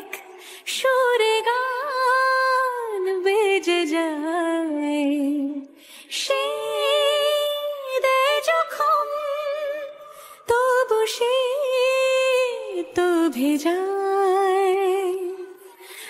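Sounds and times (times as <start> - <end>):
woman singing unaccompanied: 0.0 - 15.7.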